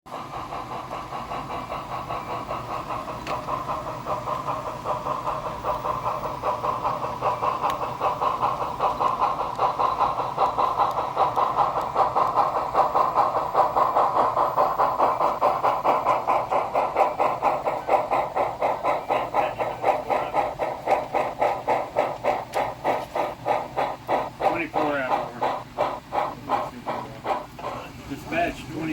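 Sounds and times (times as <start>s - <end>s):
model train running: 0.1s - 28.9s.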